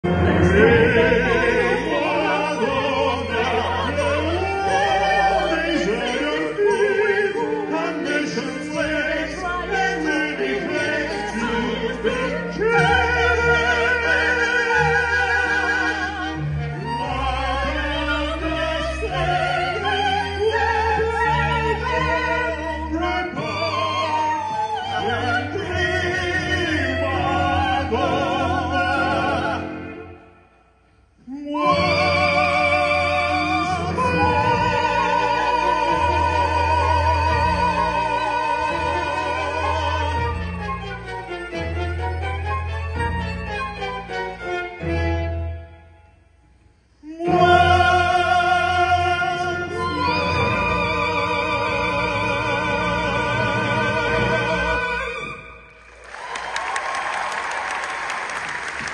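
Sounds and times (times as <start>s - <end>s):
string accompaniment: 0.0s - 58.9s
woman and man singing duet: 0.1s - 29.8s, 31.3s - 40.5s, 47.0s - 55.4s.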